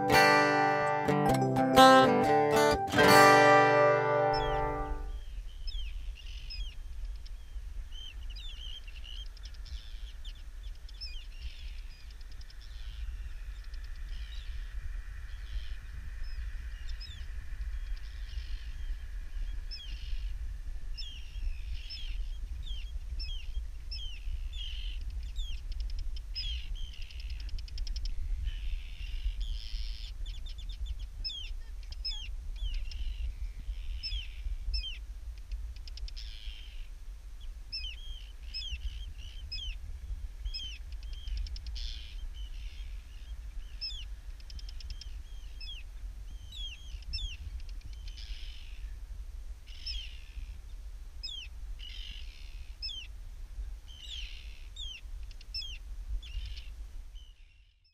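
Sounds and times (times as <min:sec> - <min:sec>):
wind rumble on microphone: 0:05.0 - 0:57.8.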